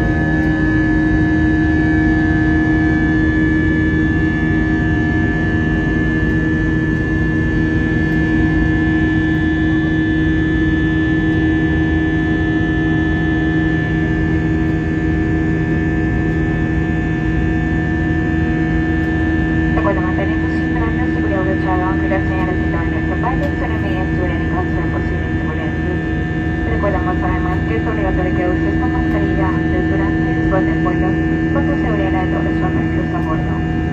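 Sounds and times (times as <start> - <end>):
high engine whine: 0.0 - 33.9
low hum: 0.0 - 33.9.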